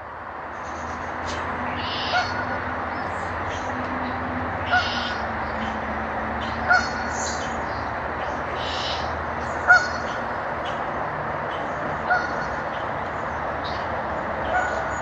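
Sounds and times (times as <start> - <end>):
stream water rushing: 0.1 - 15.0.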